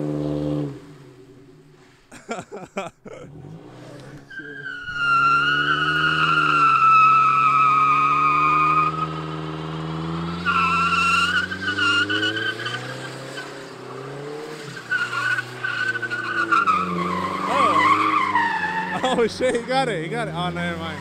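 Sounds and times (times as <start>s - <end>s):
car engine revving: 0.0s - 2.0s, 3.1s - 21.0s
car tyres screeching: 0.0s - 21.0s.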